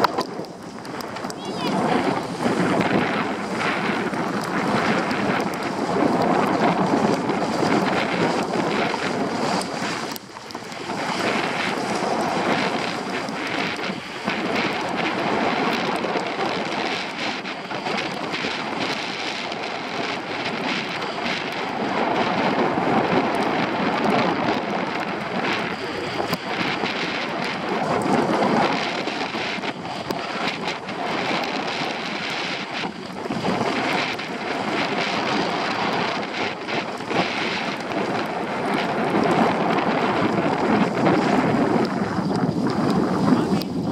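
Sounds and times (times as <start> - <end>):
skis scraping over snow: 0.0 - 43.9
wind buffeting microphone: 0.0 - 43.9.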